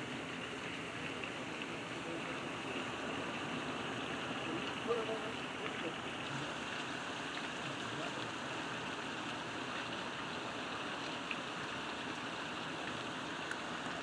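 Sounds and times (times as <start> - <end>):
heavy rain on foliage: 0.0 - 14.0.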